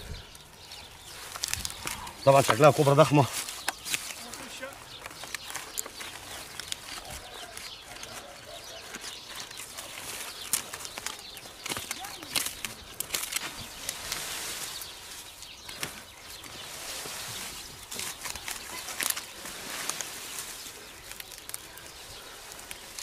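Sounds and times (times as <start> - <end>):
dry straw rustling and crackling: 0.0 - 23.0.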